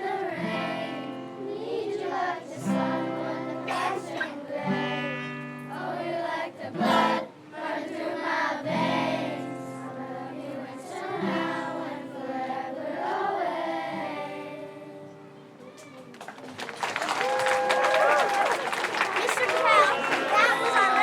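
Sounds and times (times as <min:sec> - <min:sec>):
children's choir singing: 0:00.0 - 0:15.2, 0:19.2 - 0:21.0.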